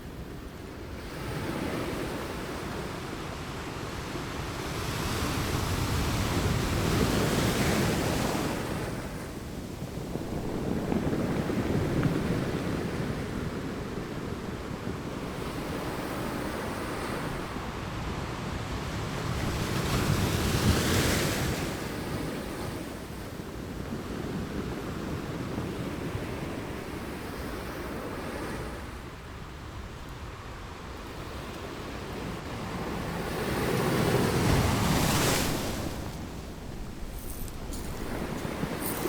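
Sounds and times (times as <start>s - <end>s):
wind on microphone: 4.2s - 39.0s
ocean waves breaking: 4.5s - 29.8s, 31.1s - 39.0s.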